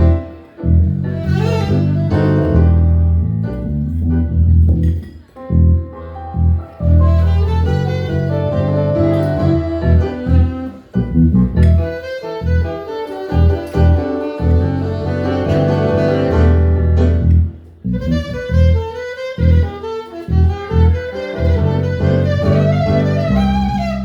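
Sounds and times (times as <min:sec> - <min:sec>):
repeated low bass notes: 0:00.0 - 0:12.7, 0:13.3 - 0:24.0.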